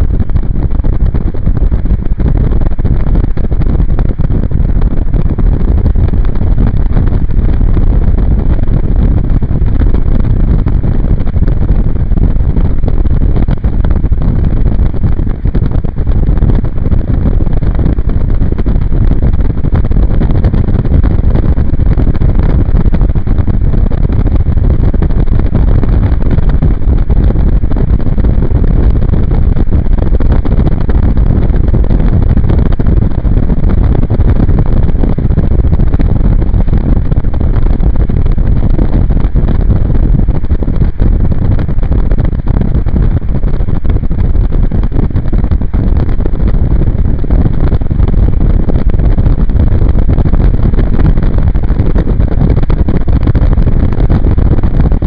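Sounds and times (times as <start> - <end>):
wind roaring over microphone: 0.0 - 55.0.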